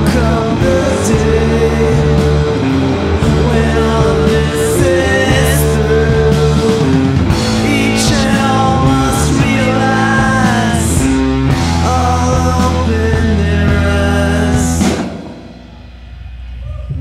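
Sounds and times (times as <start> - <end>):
person singing: 0.0 - 15.1
electric guitars: 0.0 - 16.8
bass guitar: 0.0 - 17.0
drums: 0.0 - 17.0.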